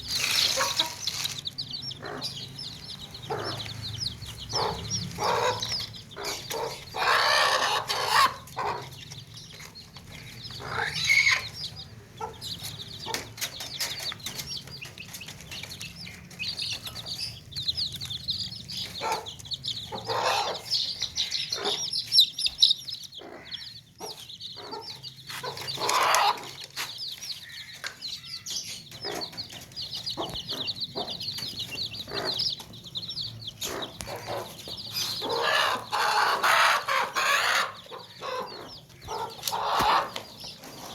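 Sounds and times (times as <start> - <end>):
baby chicks peeping: 0.0 - 40.9
chicken clucking: 0.1 - 40.9.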